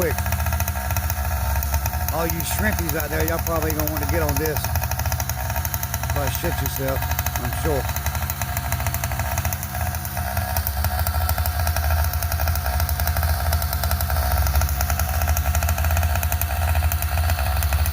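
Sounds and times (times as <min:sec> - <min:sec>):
small engine running: 0:00.0 - 0:17.9.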